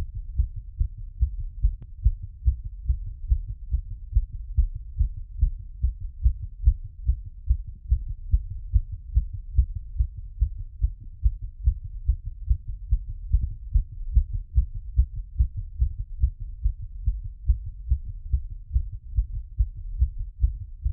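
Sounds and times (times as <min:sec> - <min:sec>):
heartbeat through stethoscope: 0:00.0 - 0:20.9.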